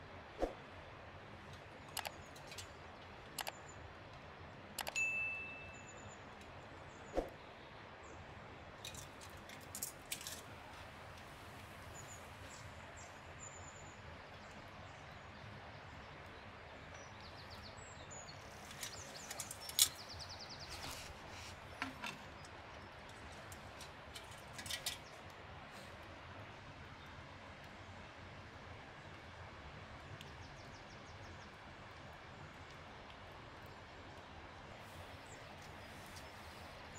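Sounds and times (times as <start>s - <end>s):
steady forest hiss: 0.0s - 36.9s.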